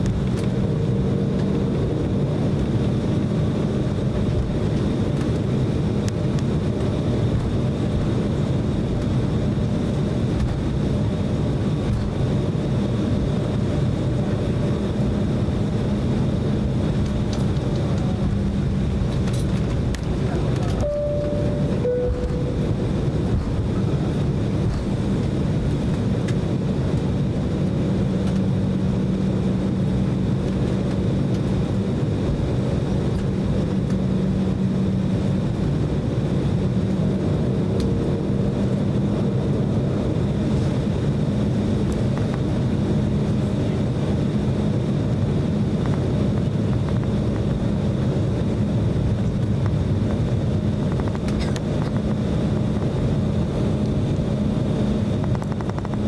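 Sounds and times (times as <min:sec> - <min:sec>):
aircraft cabin engine drone: 0:00.0 - 0:56.0.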